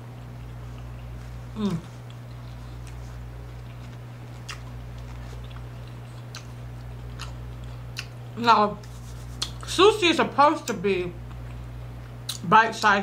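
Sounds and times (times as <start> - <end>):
steady low hum: 0.0 - 13.0
soft mouth clicks chewing: 0.2 - 8.2, 8.8 - 9.7, 10.7 - 12.5.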